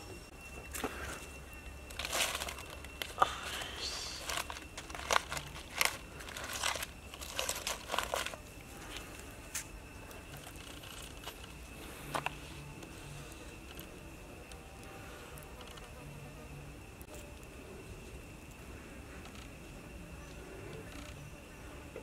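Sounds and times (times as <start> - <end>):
palm leaves crinkling and crackling: 0.3 - 22.0.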